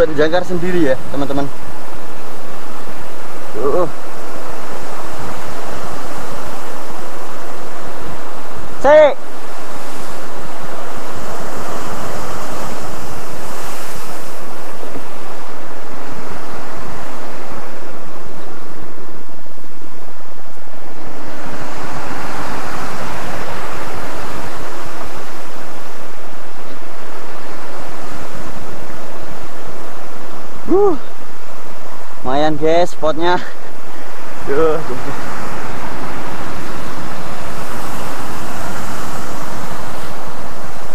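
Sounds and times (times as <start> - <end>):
sea surf crashing against cliff: 0.0 - 40.9
wind buffeting microphone: 0.0 - 40.9.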